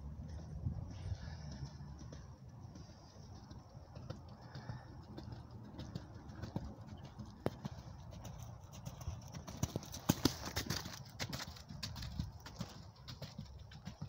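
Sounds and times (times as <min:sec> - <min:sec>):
horse hoofbeats on sand: 0:00.0 - 0:14.0.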